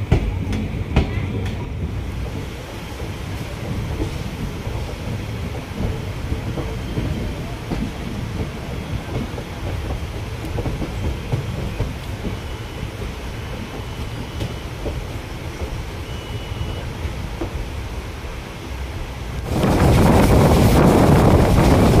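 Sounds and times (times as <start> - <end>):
wheel clatter over rail joints: 0.0 - 17.7
train rumble: 0.0 - 22.0.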